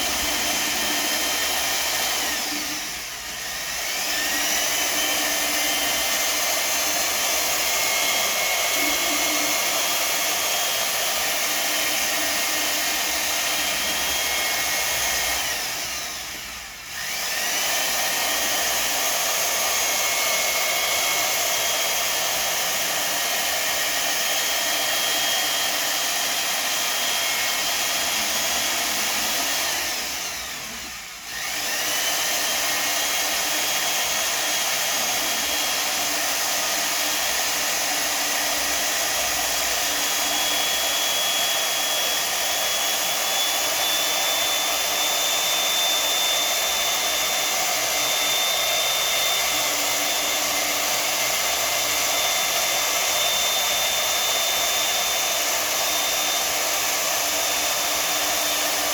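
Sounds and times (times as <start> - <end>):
power tool motor whine: 0.0 - 58.9.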